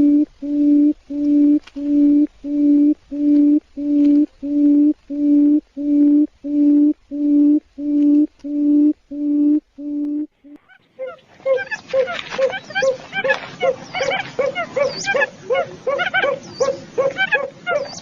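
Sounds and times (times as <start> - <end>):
quail hooting: 0.0 - 18.0.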